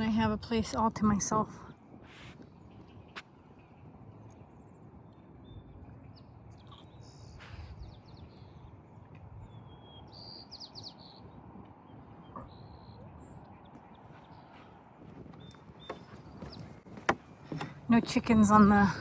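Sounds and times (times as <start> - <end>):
small birds chirping: 2.0 - 19.0.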